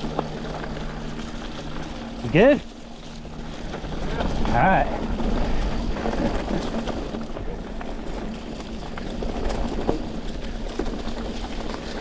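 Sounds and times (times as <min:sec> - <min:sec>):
bike tyres rolling on dirt: 0:00.0 - 0:12.0.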